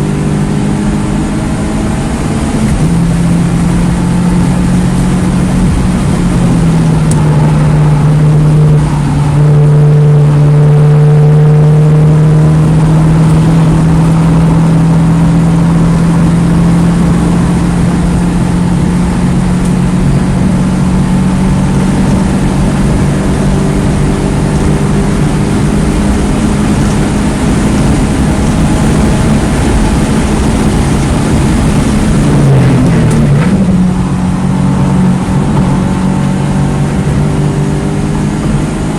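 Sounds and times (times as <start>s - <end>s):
car engine at high revs: 0.0s - 38.9s
road and wind noise: 0.0s - 38.9s.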